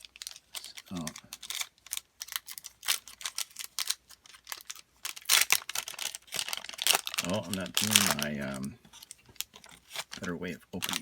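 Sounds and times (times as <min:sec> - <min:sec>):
wrappers crinkling: 0:00.0 - 0:11.0.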